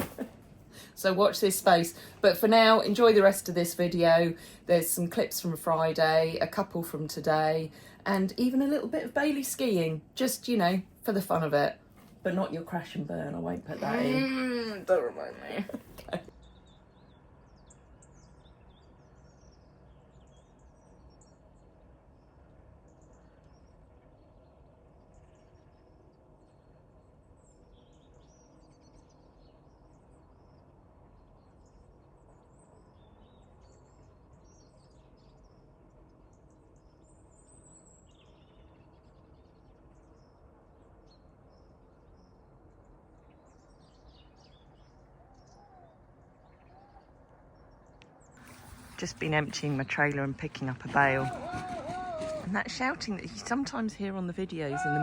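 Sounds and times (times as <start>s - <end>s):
low background noise: 0.0s - 55.0s
small birds chirping: 0.0s - 55.0s.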